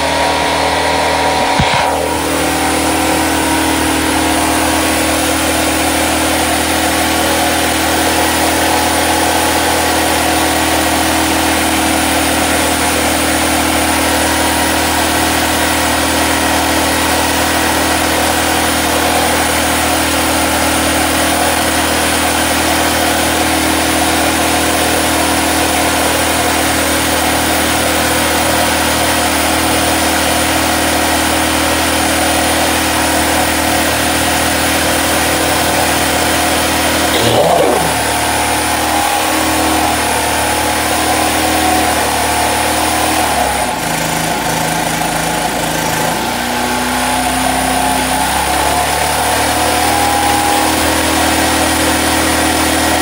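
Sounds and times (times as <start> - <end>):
generator engine running: 0.0 - 53.0.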